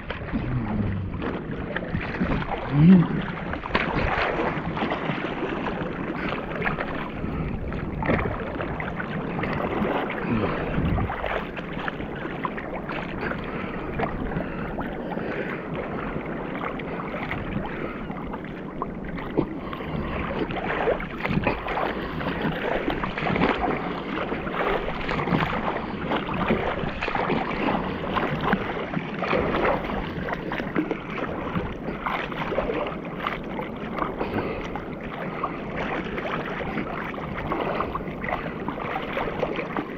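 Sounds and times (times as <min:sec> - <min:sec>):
sea water sloshing and splashing: 0:00.0 - 0:39.9.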